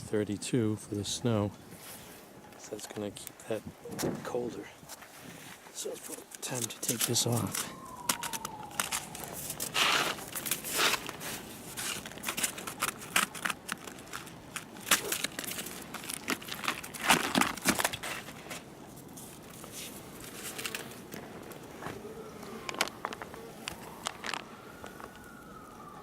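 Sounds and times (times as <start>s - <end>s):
covering crinkling and crackling: 1.8s - 26.0s.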